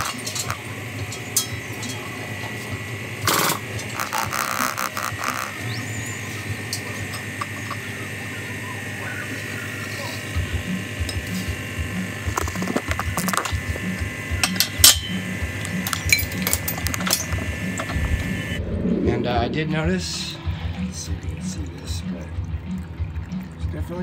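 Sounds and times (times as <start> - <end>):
high-pitched whine: 0.0 - 23.7.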